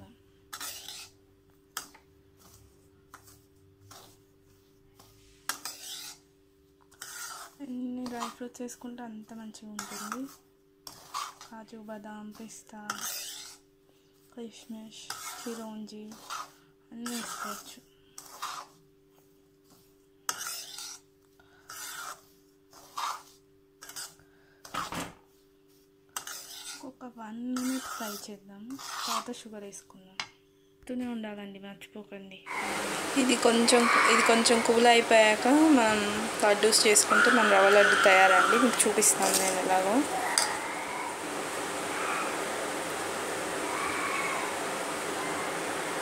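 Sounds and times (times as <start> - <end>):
spatula scraping pan: 0.0 - 29.5, 32.5 - 42.4.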